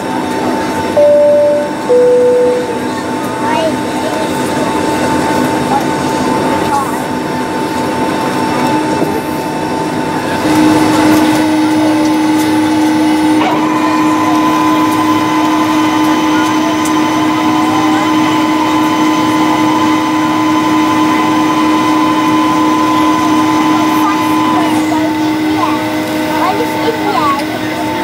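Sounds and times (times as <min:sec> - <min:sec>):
jet engine whine in cabin: 0:00.0 - 0:28.0.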